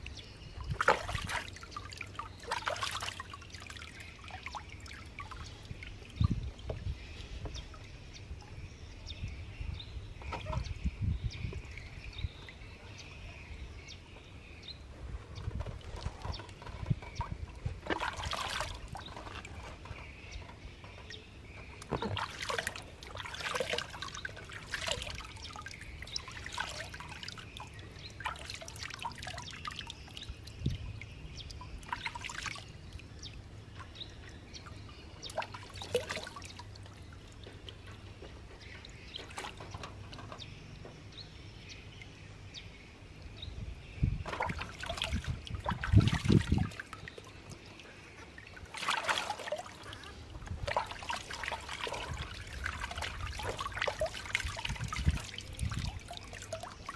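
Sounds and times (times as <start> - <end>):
water splashing and trickling: 0.0 - 56.9.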